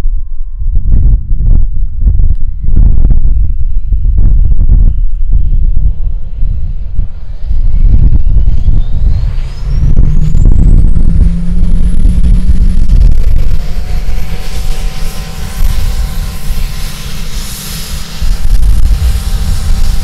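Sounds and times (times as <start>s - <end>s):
jet engine whine spooling up: 0.0s - 20.0s
loud low engine rumble: 0.0s - 20.0s
steady low hum: 0.0s - 20.0s.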